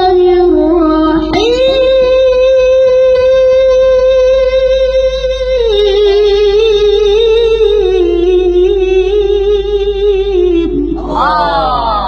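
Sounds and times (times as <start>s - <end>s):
person chanting melodically: 0.0s - 12.0s.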